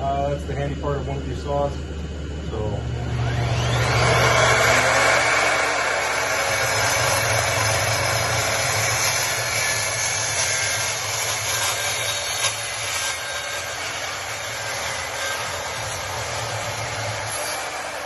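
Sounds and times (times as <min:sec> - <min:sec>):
chop saw cutting steel tube: 0:03.3 - 0:18.0.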